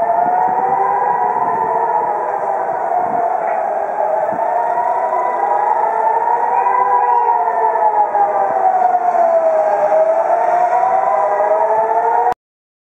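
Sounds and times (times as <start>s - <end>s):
air raid sirens wavering: 0.0s - 12.4s.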